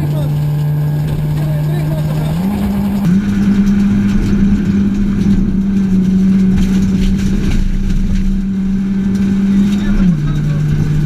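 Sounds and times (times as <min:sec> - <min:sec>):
gravel clicking against car: 0:00.0 - 0:11.0
rally engine at high revs: 0:00.0 - 0:11.0.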